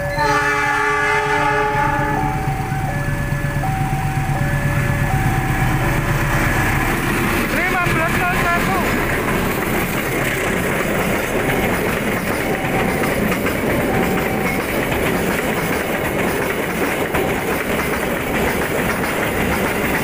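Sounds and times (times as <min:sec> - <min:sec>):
train wheels clattering on rails: 0:02.3 - 0:20.0.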